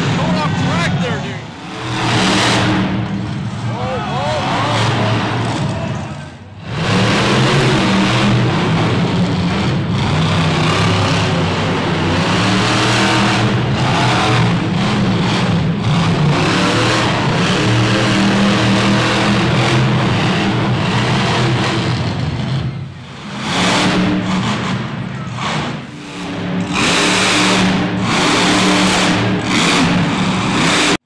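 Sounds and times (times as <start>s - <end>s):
monster truck engines revving: 0.0s - 31.0s.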